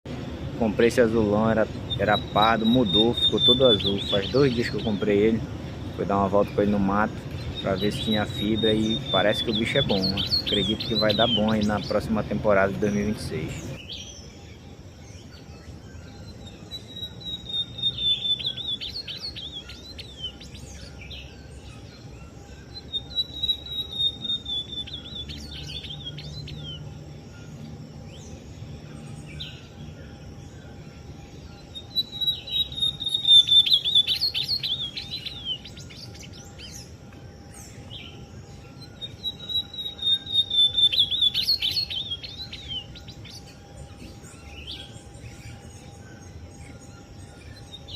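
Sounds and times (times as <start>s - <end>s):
bird singing whistles and notes: 0.6s - 14.3s, 15.2s - 26.8s, 31.4s - 37.0s, 37.6s - 47.9s.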